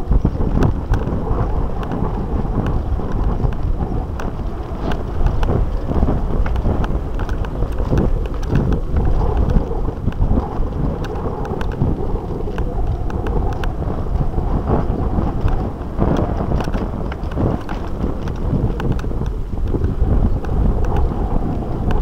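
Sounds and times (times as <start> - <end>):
bike knocks and rattles: 0.0 - 22.0
steady low rumble: 0.0 - 22.0
wind rushing over microphone: 0.0 - 22.0.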